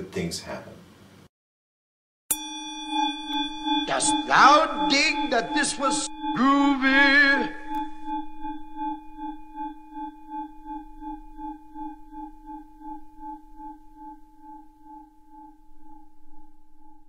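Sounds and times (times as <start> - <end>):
wobbling bell-like tone: 2.3 - 17.0.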